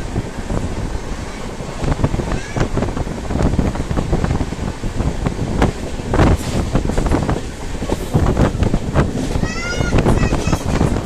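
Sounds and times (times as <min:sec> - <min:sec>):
train rumbling: 0:00.0 - 0:11.0
wind buffeting microphone: 0:00.0 - 0:11.0.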